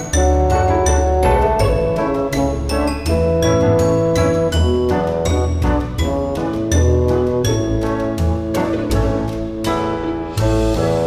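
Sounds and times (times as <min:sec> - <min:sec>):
upbeat music with mallet notes: 0:00.0 - 0:11.0.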